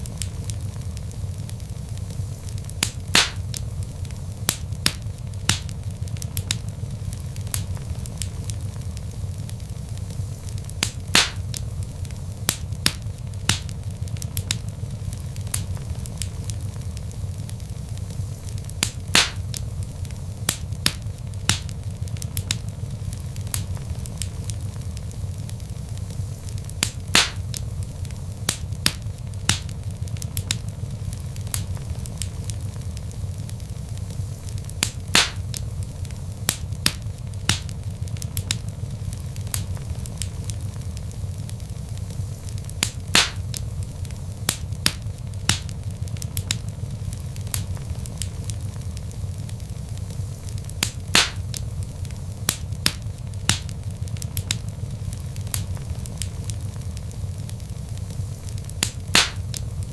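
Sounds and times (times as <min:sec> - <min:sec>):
fire crackles and pops: 0:00.0 - 0:59.9
logs burning low rumble: 0:00.0 - 0:59.9.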